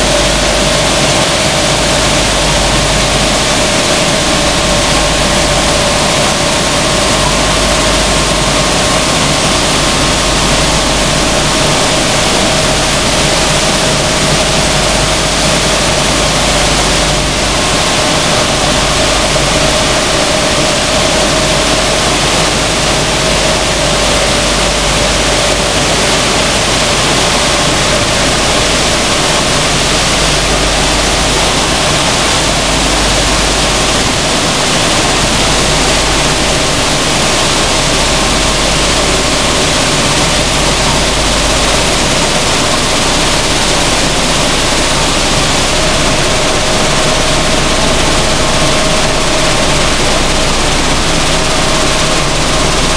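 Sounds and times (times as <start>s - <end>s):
machine whine: 0.0s - 52.9s.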